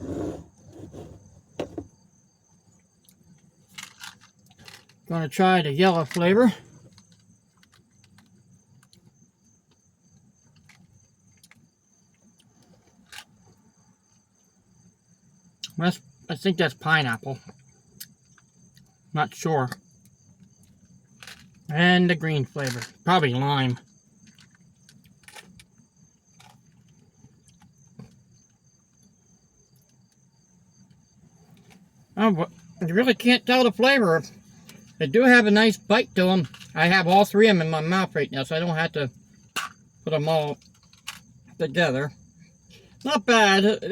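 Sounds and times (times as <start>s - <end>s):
crickets trilling faintly: 0.0s - 43.9s.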